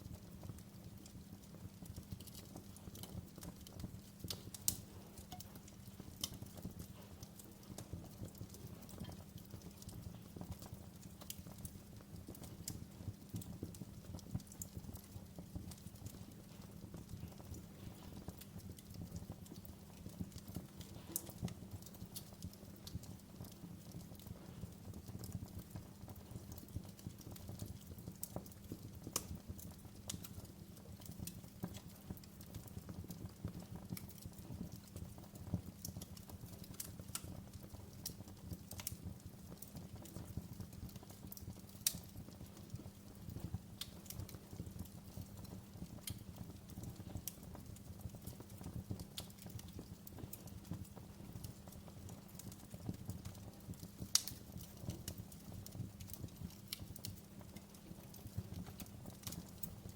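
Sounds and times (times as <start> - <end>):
low rumble of flames: 0.0 - 59.9
wood fire popping and snapping: 0.0 - 59.9.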